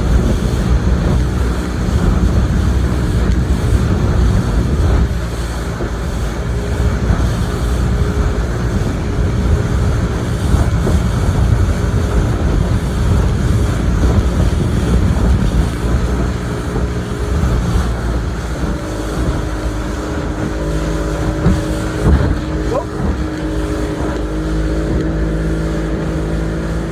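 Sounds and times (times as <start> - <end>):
motorboat engine running: 0.0 - 26.9.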